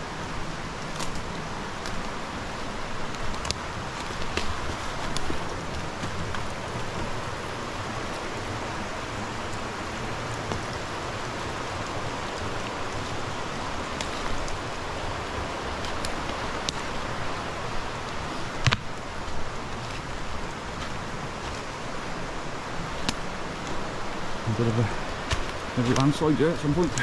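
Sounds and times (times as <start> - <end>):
hiss of running water: 0.0 - 27.0.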